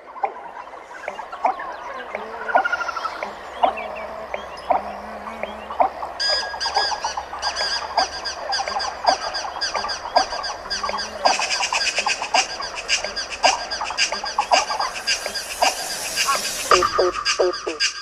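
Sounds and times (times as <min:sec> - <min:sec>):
birds chirping and calling: 0:00.0 - 0:18.0
fast high repeated chirping: 0:02.6 - 0:18.0.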